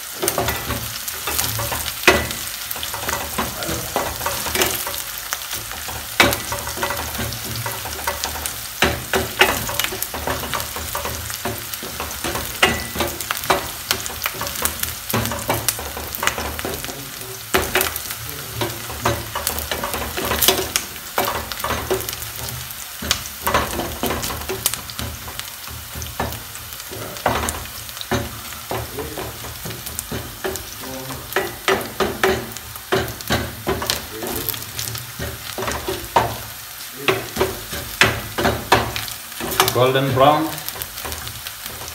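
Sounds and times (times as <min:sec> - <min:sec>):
onions sizzling in a pan: 0:00.0 - 0:41.9
wooden spoon scraping a pan: 0:00.0 - 0:41.9.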